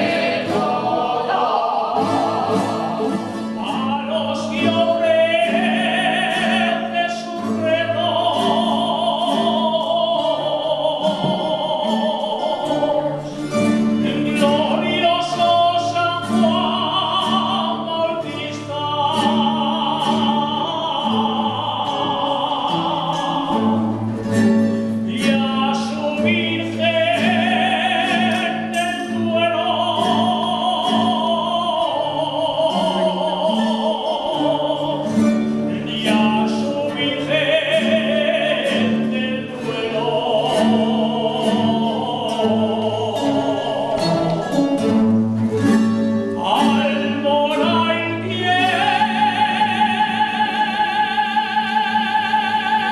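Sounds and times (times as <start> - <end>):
person singing with vibrato: 0.0 - 52.9
plucked strings: 0.0 - 52.9
string accompaniment: 0.0 - 52.9.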